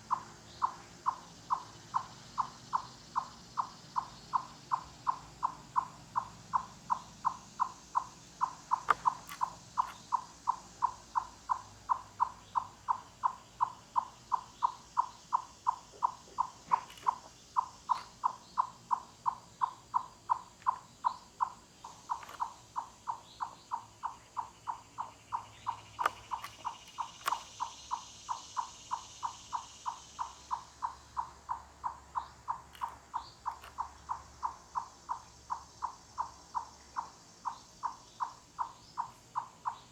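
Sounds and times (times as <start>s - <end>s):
chipmunk clucking call: 0.0s - 39.9s.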